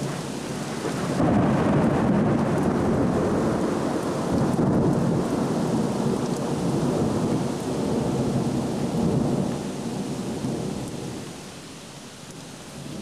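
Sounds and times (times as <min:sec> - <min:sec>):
thunder rumbling: 0:00.0 - 0:11.3
rain falling: 0:00.0 - 0:13.0.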